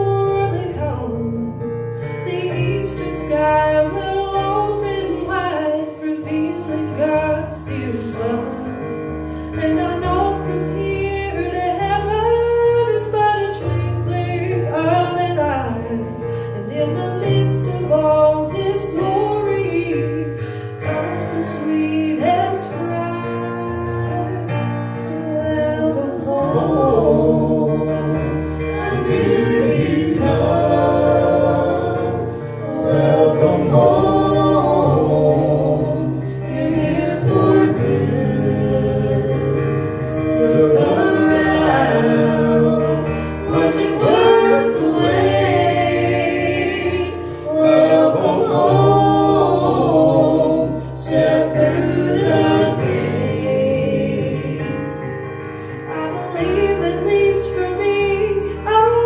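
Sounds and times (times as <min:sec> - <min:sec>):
choir singing: 0:00.0 - 0:01.6, 0:02.2 - 0:55.3.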